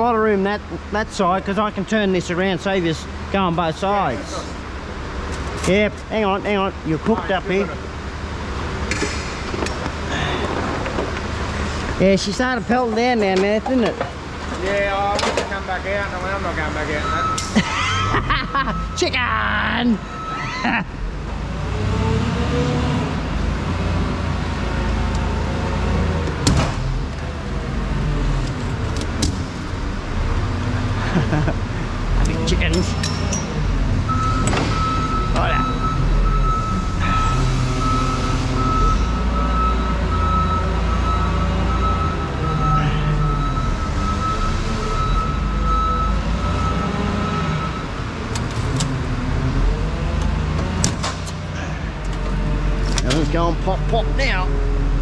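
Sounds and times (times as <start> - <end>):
vehicle engine low rumble: 0.0 - 55.0.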